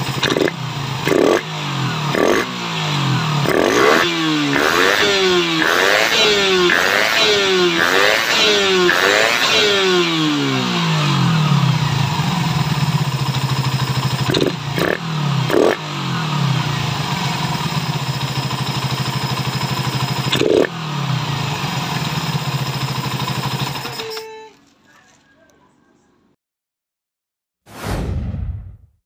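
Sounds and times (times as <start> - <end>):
motorcycle engine idling and revving: 0.0 - 24.7.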